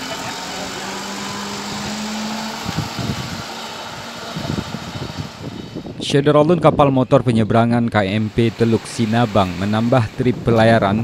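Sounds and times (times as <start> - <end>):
truck engines running: 0.0 - 11.0.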